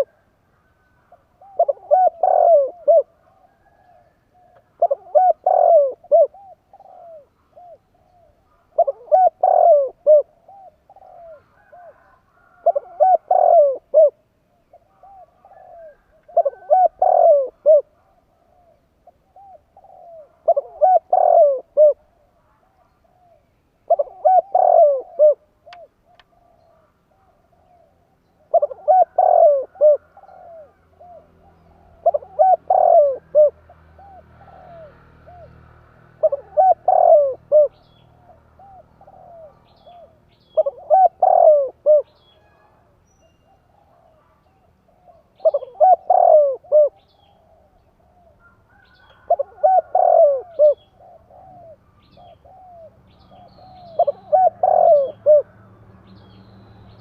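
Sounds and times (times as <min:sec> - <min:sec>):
dove cooing: 0:00.0 - 0:42.9, 0:43.5 - 0:55.7.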